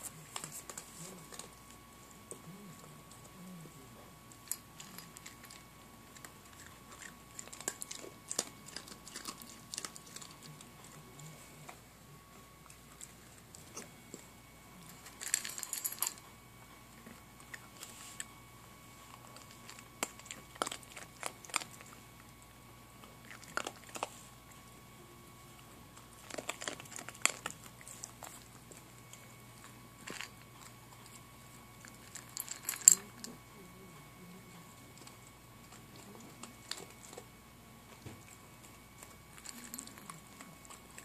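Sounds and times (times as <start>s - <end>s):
dog crunching dry kibble: 0.0s - 41.0s.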